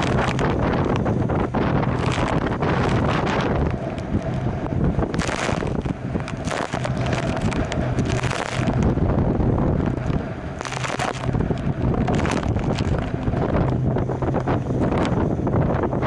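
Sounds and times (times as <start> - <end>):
water rushing along hulls: 0.0 - 16.0
wind buffeting microphone: 0.0 - 16.0.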